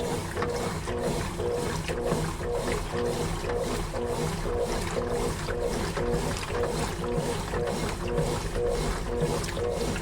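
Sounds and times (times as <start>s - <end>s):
agitator swishing water: 0.0s - 10.0s
washing machine motor hum: 0.0s - 10.0s.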